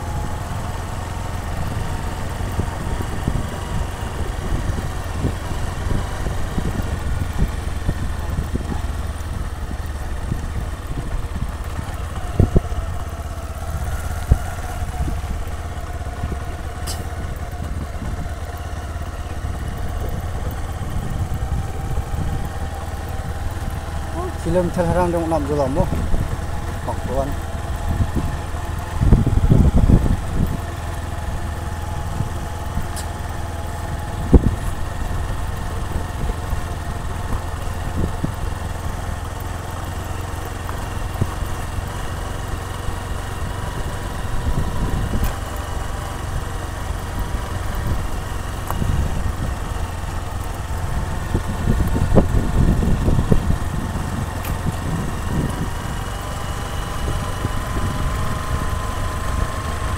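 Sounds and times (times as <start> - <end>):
wind buffeting microphone: 0.0 - 39.4, 40.1 - 59.9
motorcycle engine running: 0.0 - 59.9.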